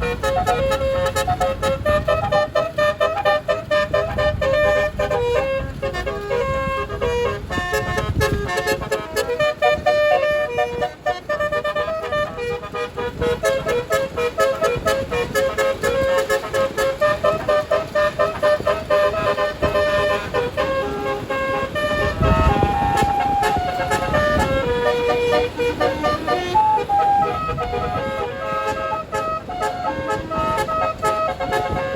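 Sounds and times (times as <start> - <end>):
bus horn playing a tune: 0.0 - 31.9.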